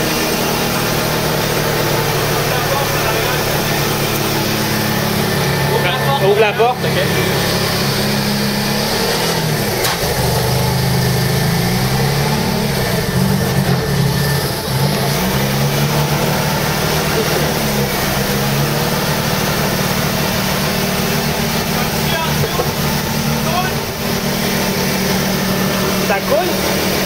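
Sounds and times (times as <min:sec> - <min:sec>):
rotary engine idling: 0:00.0 - 0:27.0.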